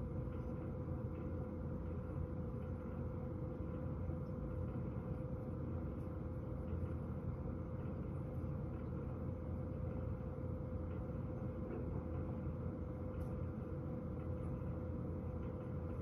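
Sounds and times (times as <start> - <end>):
fan heater humming: 0.0 - 16.0.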